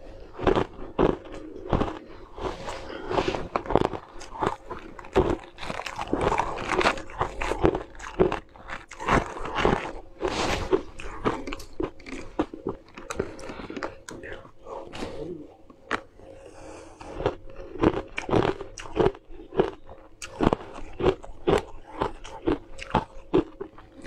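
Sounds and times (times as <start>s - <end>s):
chewing ice crunches: 0.3s - 14.8s, 17.0s - 24.0s.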